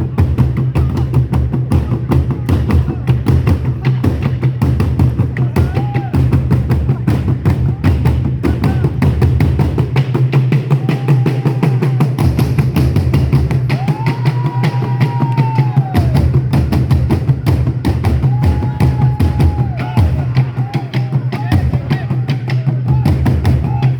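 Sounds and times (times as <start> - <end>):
fast hand drumming: 0.0 - 23.9.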